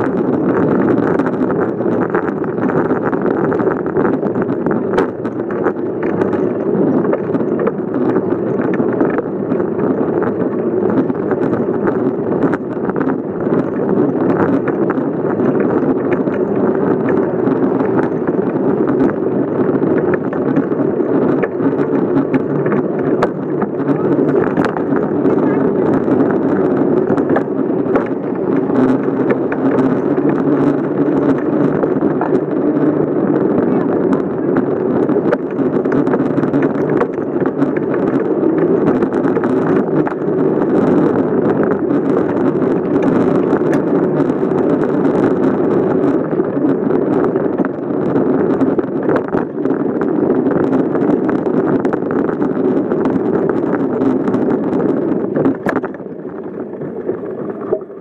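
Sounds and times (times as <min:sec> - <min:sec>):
bicycle tyres rumbling: 0:00.0 - 0:58.0
wind buffeting microphone: 0:00.0 - 0:58.0.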